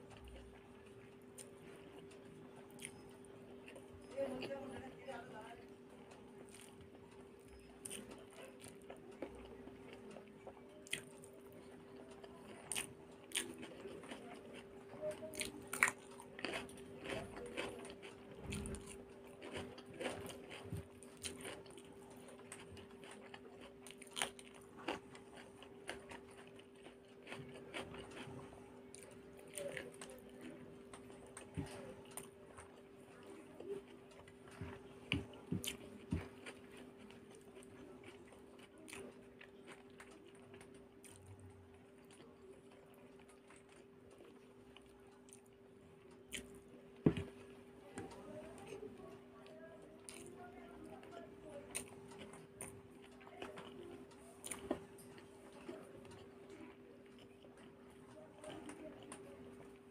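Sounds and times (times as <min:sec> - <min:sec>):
person chewing with wet smacks: 0:00.0 - 0:59.9.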